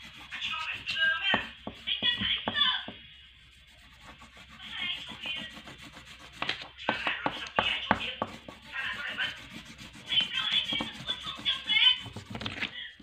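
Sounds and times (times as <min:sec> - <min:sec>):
crayon scratching on paper: 0:00.0 - 0:12.7.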